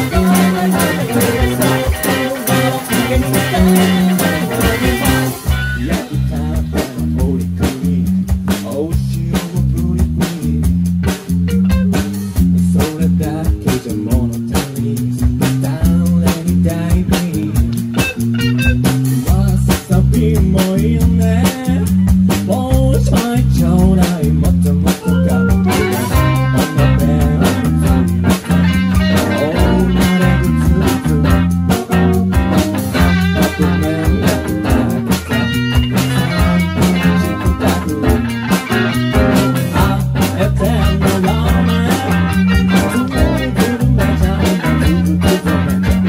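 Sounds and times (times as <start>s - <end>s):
bass guitar: 0.0s - 46.0s
electric guitar: 0.0s - 46.0s
steady drum beat: 0.0s - 46.0s.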